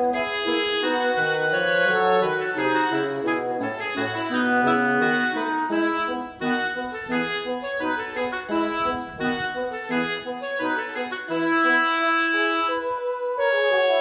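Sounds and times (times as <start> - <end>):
keyboard accompaniment: 0.0 - 14.0
wind instrument melody: 0.0 - 14.0.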